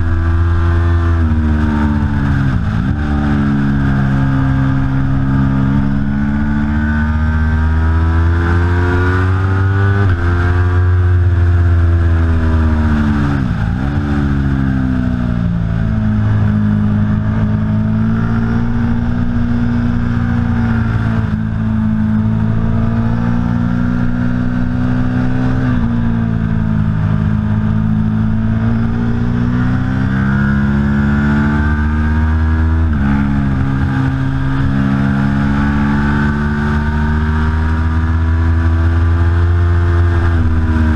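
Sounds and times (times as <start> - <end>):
motorcycle engine at full throttle: 0.0 - 40.9.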